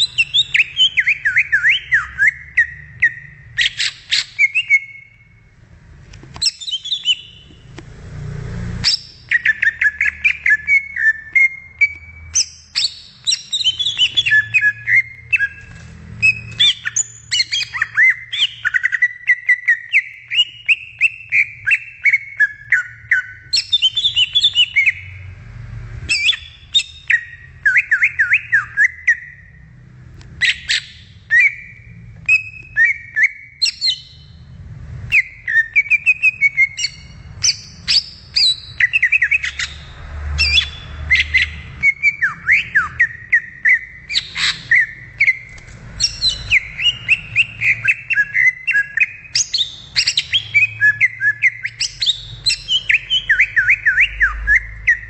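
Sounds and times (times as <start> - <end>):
bird singing whistles and chirps: 0.0 - 5.5, 6.3 - 7.6, 8.8 - 25.2, 26.1 - 29.6, 30.4 - 34.4, 35.1 - 55.0.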